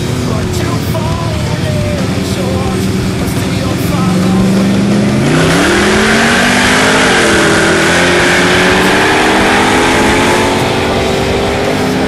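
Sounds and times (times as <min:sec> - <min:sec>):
car engines at full throttle: 0:00.0 - 0:12.0
wind and road noise: 0:00.0 - 0:12.0.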